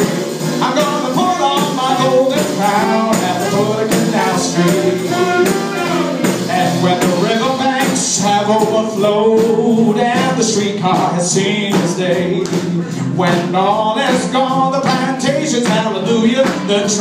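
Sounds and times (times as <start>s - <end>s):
jazz band playing live: 0.0s - 17.0s.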